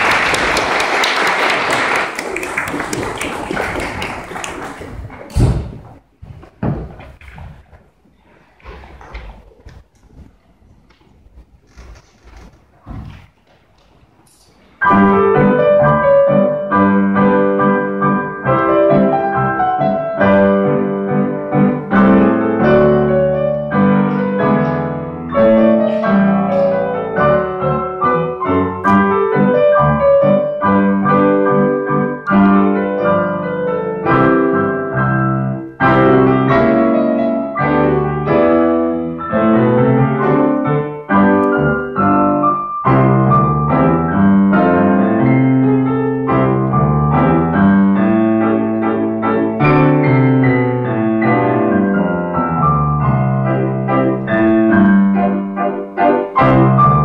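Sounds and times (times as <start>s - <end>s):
ragtime piano: 0.0s - 6.0s, 14.8s - 57.0s.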